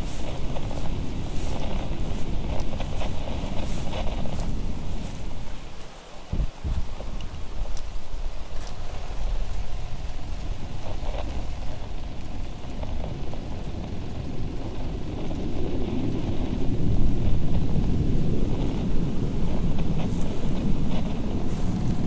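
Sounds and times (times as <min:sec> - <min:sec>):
deep noisy rumble: 0:00.0 - 0:22.0.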